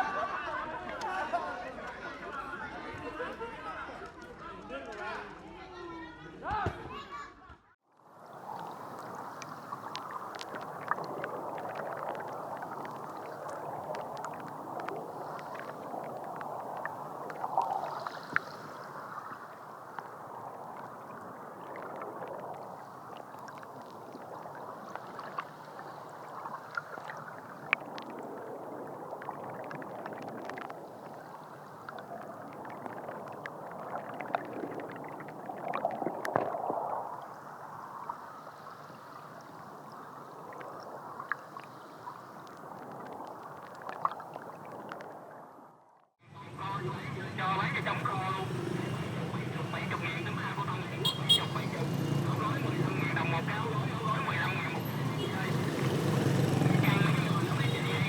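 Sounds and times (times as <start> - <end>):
water gurgling and lapping: 8.0 - 46.2, 47.4 - 58.0.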